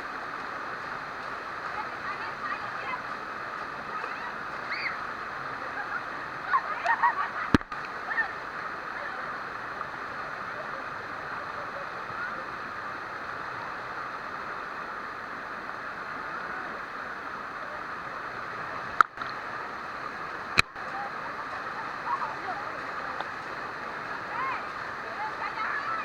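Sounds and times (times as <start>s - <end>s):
waterfall rushing: 0.0s - 14.9s, 15.8s - 26.0s.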